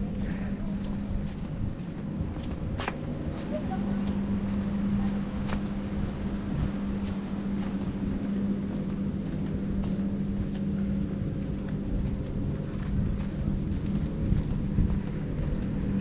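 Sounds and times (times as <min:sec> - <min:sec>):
low motor hum: 0:00.0 - 0:16.0
rumbling outdoor noise: 0:00.0 - 0:16.0.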